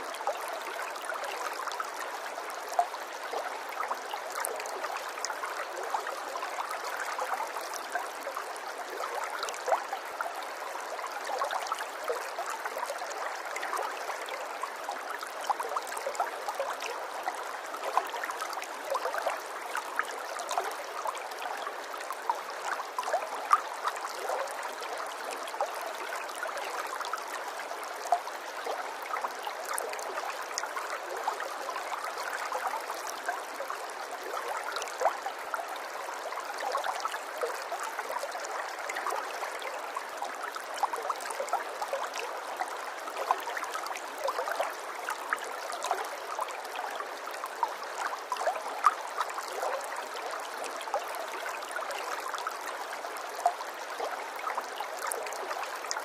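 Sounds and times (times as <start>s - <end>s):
water trickling and gurgling: 0.0s - 56.0s.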